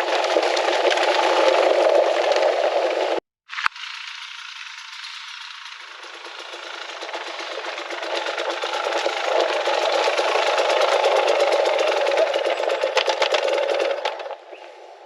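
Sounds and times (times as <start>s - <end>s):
dirt bike engine running hard: 0.0s - 14.6s.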